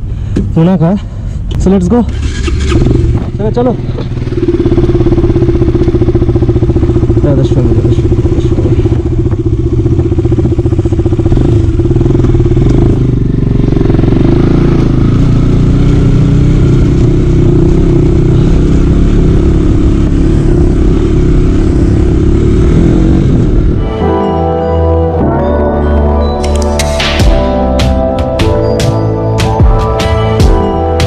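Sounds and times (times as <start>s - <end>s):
motorcycle engine running: 1.4s - 24.0s, 26.6s - 31.0s.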